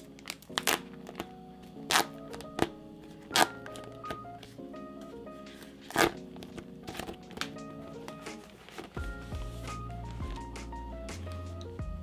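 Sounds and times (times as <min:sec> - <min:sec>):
slow music with deep bass: 0:00.0 - 0:12.0.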